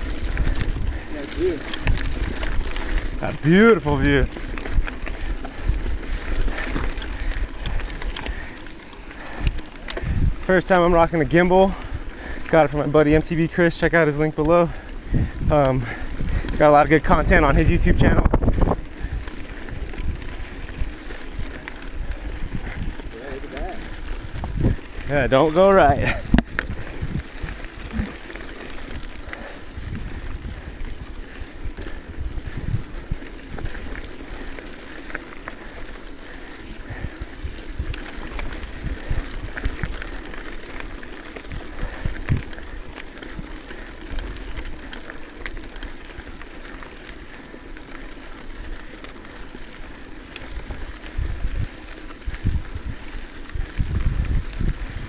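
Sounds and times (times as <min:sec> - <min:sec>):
bike tyres rolling on dirt: 0:00.0 - 0:55.0
small clicks and rattles: 0:00.0 - 0:55.0
wind buffeting microphone: 0:00.0 - 0:55.0.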